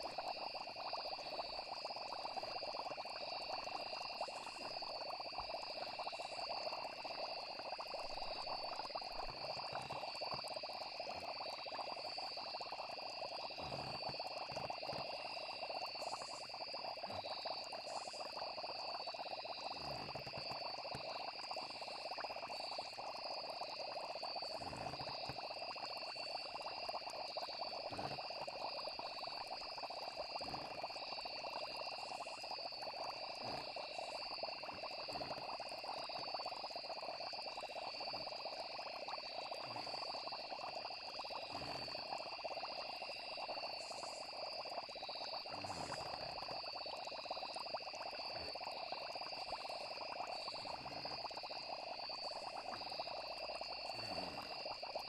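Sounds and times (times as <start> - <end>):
frogs croaking: 0.0 - 55.0
high insect trills: 0.0 - 55.0.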